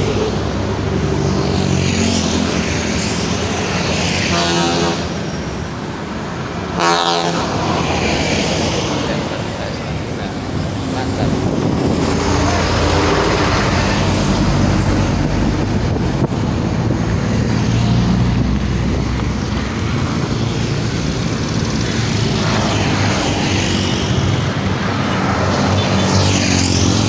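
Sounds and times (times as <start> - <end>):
bus and truck engines running: 0.0 - 27.0
tyre and road noise: 0.0 - 27.0.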